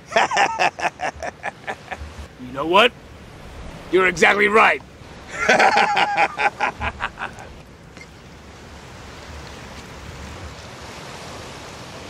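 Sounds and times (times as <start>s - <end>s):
surf washing on beach: 0.0s - 12.0s
wind gusting on microphone: 1.2s - 12.0s.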